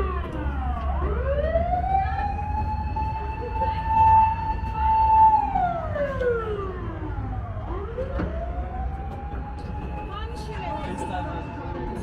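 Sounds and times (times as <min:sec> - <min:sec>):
emergency siren wailing: 0:00.0 - 0:12.0
low traffic rumble: 0:00.0 - 0:12.0.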